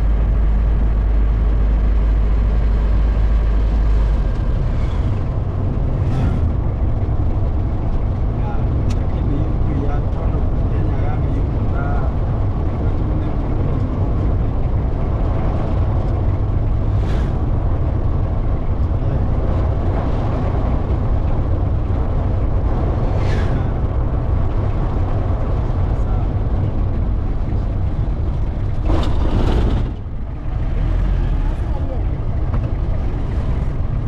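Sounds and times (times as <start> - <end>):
road vehicle rumble: 0.0 - 34.0.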